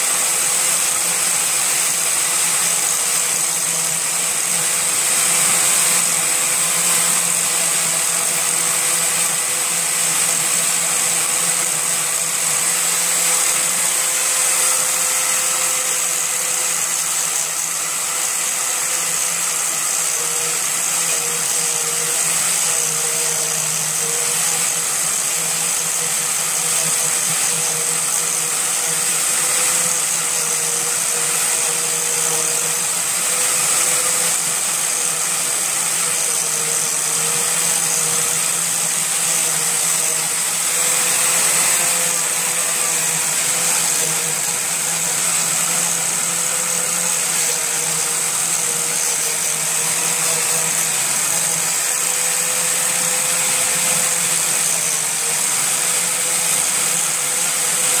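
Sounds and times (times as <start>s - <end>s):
angle grinder grinding plastic: 0.0s - 58.0s.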